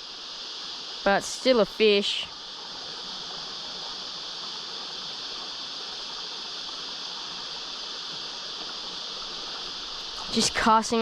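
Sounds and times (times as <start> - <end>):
cicadas droning: 0.0 - 11.0
creek flowing: 0.0 - 11.0.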